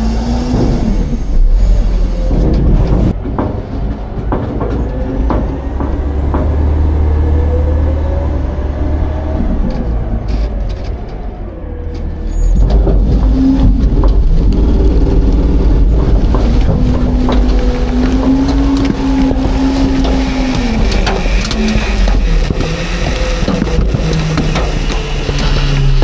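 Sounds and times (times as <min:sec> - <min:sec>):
hydraulic whine: 0:00.0 - 0:03.1, 0:04.8 - 0:26.0
low engine rumble: 0:00.0 - 0:26.0
trash and steel clunking: 0:00.4 - 0:08.0, 0:11.9 - 0:26.0.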